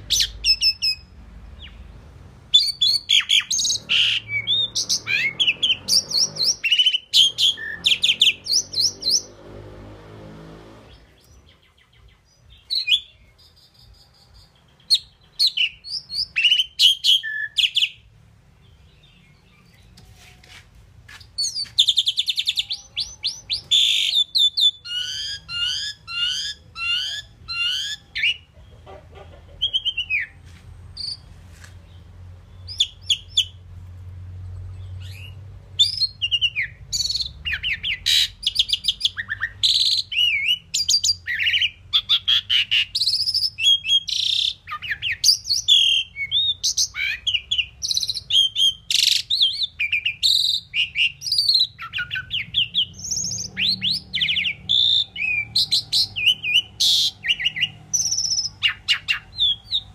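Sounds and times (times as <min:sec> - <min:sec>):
myna whistling and chirping: 0:00.0 - 0:01.8, 0:02.5 - 0:09.4, 0:11.0 - 0:18.0, 0:21.3 - 0:30.4, 0:31.0 - 0:31.3, 0:32.6 - 0:33.6, 0:35.0 - 0:59.9.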